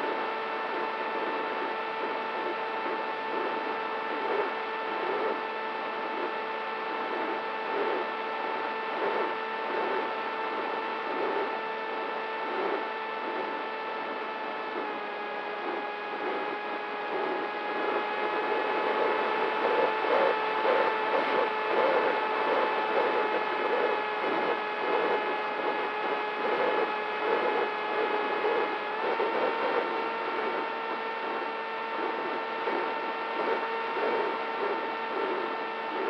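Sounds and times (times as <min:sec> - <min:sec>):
electric motor propeller whine: 0:00.0 - 0:36.0.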